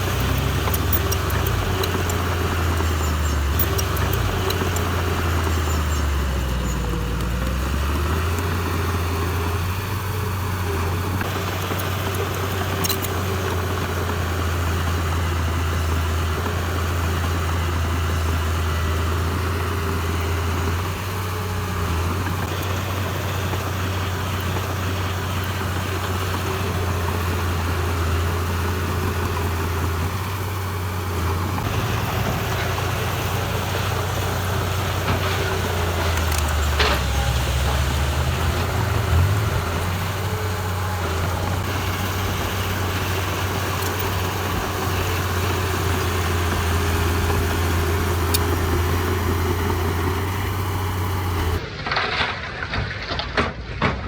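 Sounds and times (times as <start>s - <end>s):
diesel engine droning: 0.0s - 53.2s.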